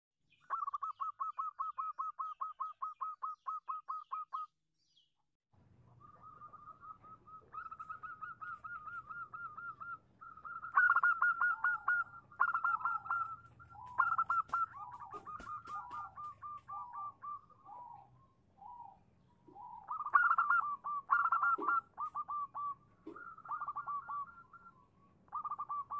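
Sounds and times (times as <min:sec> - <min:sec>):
dove cooing: 0:00.5 - 0:04.4, 0:05.8 - 0:25.9.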